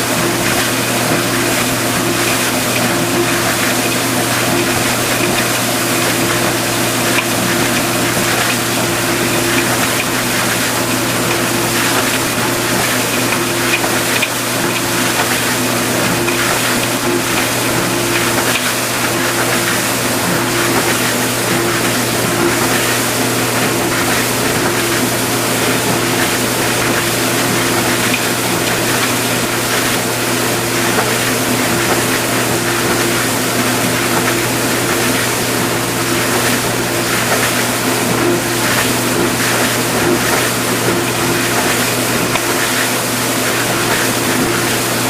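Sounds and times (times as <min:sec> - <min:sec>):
dishwasher motor humming: 0:00.0 - 0:45.0.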